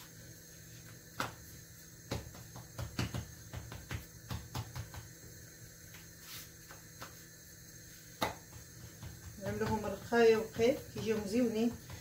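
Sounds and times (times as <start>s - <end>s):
hands slapping dough: 0.8s - 12.0s.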